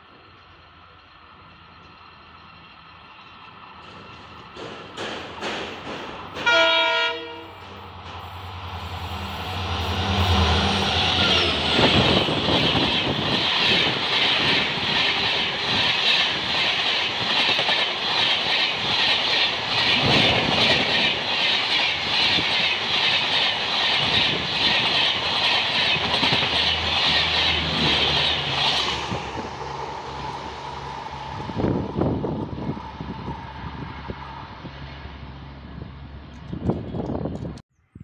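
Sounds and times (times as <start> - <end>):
express train rushing past: 0.0 - 37.6
train rumble: 0.0 - 37.6.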